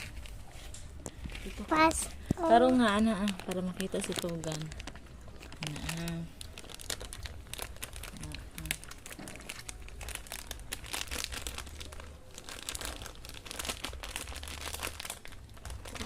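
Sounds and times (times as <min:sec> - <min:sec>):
wrapper crinkling and rustling: 0:00.0 - 0:16.0.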